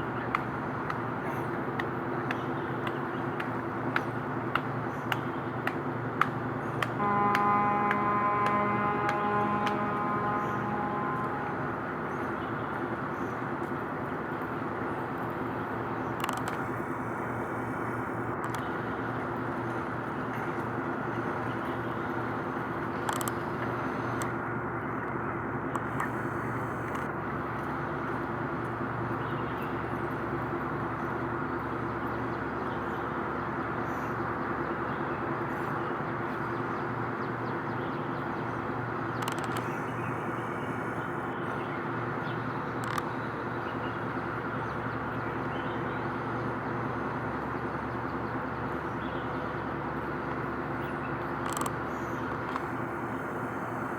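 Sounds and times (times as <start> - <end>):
road traffic hum: 0.0 - 53.9.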